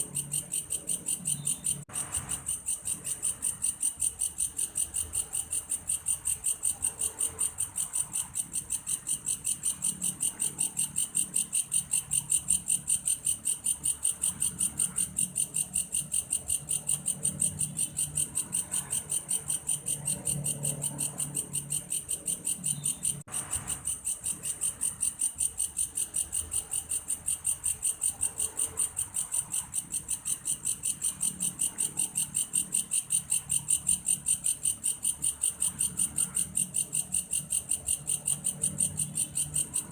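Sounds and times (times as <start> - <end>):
grasshopper pulsed chirping: 0.0 - 39.9.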